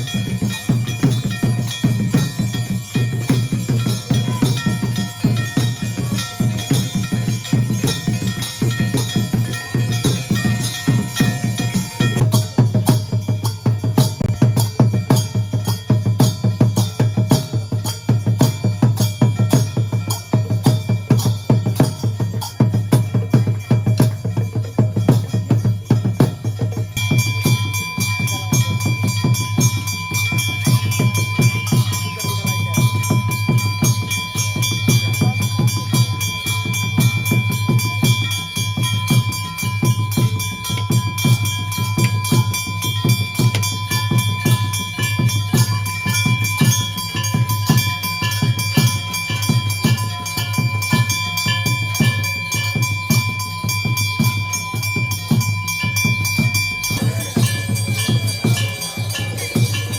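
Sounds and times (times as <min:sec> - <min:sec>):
fast drumming and percussion: 0:00.0 - 0:59.9
steady ringing tone: 0:00.0 - 0:59.9.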